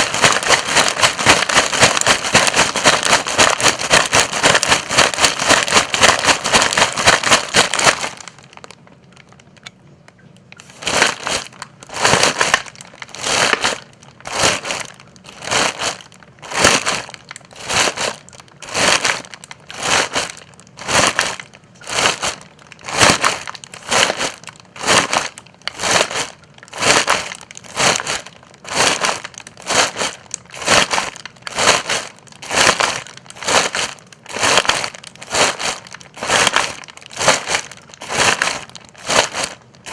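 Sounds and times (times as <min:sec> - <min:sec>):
footsteps crunching dry leaves: 0:00.0 - 0:08.6, 0:10.6 - 0:39.9.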